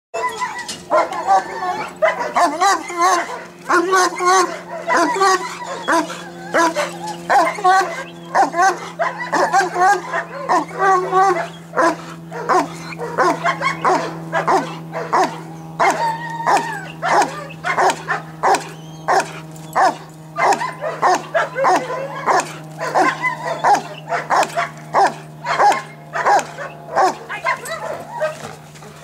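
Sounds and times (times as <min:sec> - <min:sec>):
dog barking rapidly: 0:00.2 - 0:28.9.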